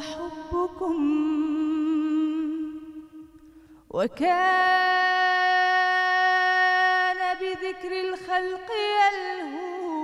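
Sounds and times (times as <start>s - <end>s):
woman singing: 0.0s - 10.0s.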